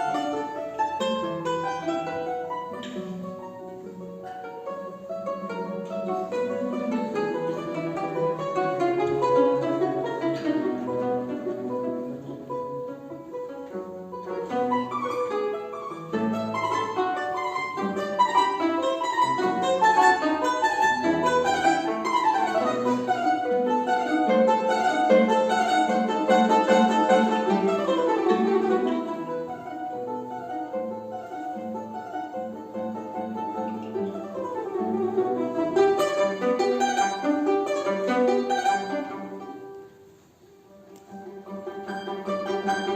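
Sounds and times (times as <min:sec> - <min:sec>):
plucked string instrument music: 0:00.0 - 0:42.9.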